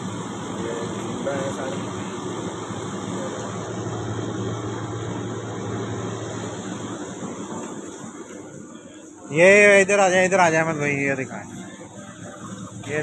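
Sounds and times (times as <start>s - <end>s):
low mechanical hum: 0.0s - 13.0s
outdoor background noise: 0.0s - 13.0s.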